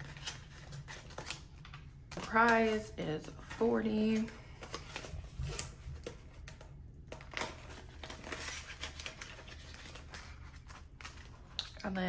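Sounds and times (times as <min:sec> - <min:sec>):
plastic envelope crinkling: 0:00.0 - 0:12.0.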